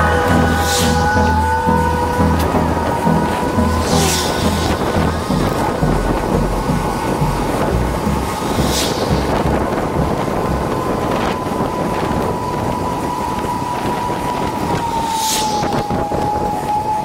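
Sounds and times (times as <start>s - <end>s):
steady mechanical whine: 0.0s - 17.0s
wind noise on microphone: 0.0s - 17.0s.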